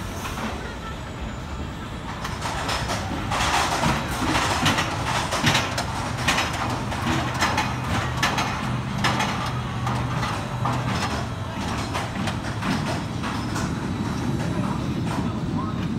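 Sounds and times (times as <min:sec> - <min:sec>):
roller coaster rumbling on track: 0:00.0 - 0:15.9
wheels clacking: 0:02.0 - 0:15.9.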